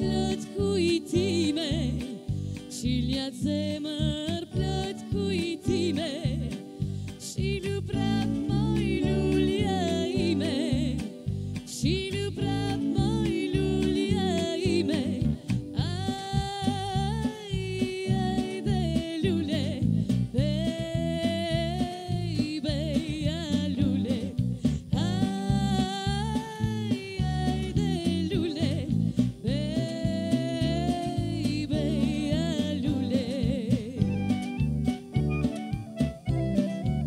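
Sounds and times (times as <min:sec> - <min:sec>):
woman singing with vibrato: 0:00.0 - 0:34.5
small live band: 0:00.0 - 0:37.0
strummed acoustic guitar: 0:00.0 - 0:37.0.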